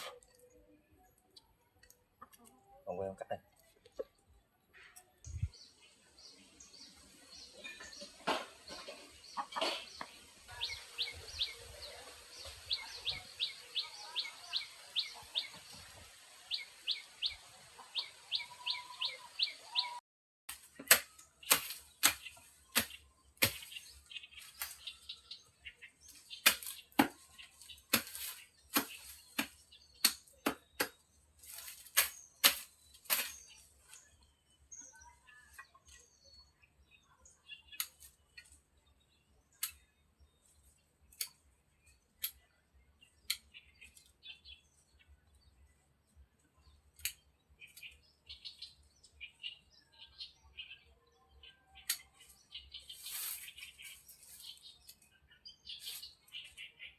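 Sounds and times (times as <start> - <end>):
bird chirping: 0.0 - 20.0, 20.6 - 56.9.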